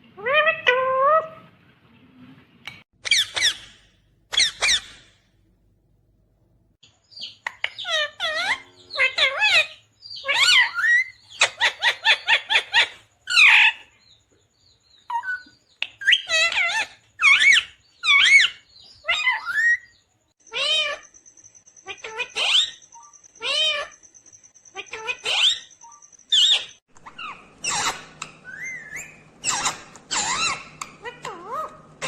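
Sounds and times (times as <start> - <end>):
parakeet calling and chattering: 3.0 - 5.2, 6.8 - 32.0.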